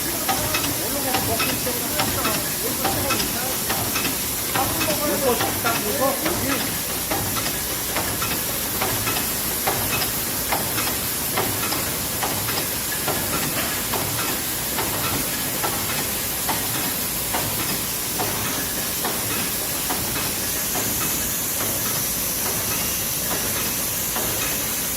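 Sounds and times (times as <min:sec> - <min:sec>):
bag sealing machine hiss: 0:00.0 - 0:24.9.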